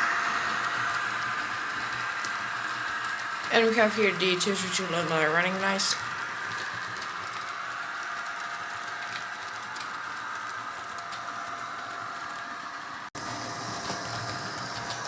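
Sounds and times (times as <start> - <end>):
model locomotive motor whirring: 0.0 - 15.0.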